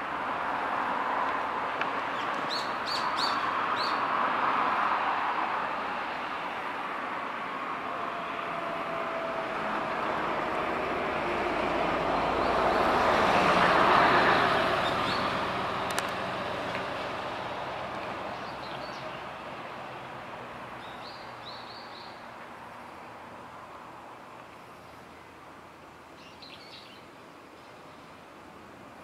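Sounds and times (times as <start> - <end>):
rush of passing vehicles: 0.0 - 29.0.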